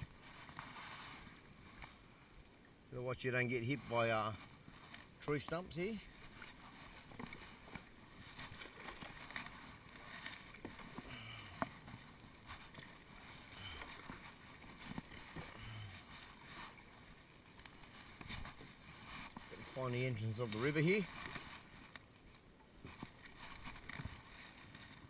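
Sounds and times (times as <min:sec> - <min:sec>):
paddle splashing in water: 0:00.0 - 0:02.2, 0:03.8 - 0:25.0.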